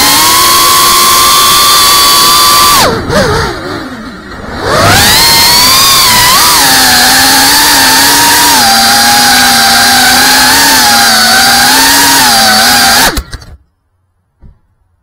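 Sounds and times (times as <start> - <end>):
quadcopter motors whining: 0.0 - 13.6.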